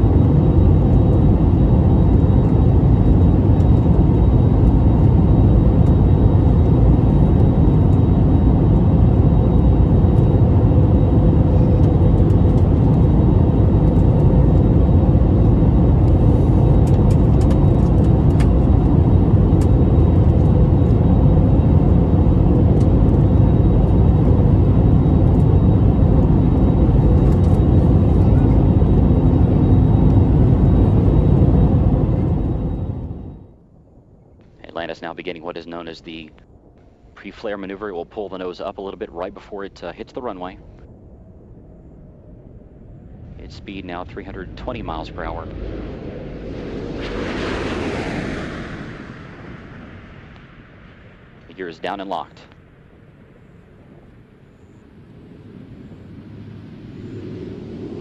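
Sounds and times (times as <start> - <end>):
airplane rumble in flight: 0.0 - 58.0
faint steady hums: 0.0 - 58.0.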